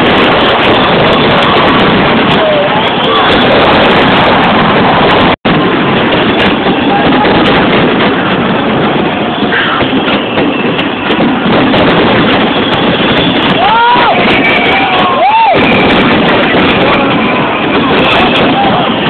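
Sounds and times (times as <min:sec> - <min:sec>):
fireworks barrage rumbling and crackling: 0:00.0 - 0:19.0.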